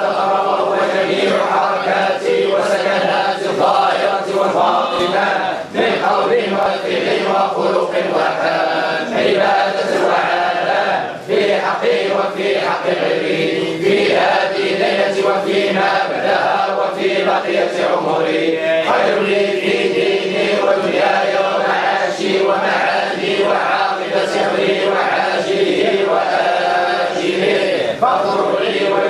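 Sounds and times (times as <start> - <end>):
men chanting together: 0.0 - 29.0.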